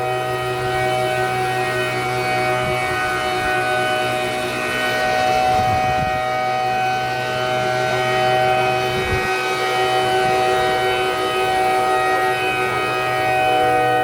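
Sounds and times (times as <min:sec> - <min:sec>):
warning siren steady tone: 0:00.0 - 0:14.0.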